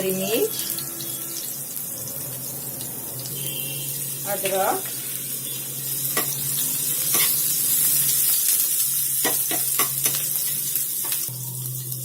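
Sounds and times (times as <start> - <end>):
chillies sizzling in hot oil: 0.0 - 12.0.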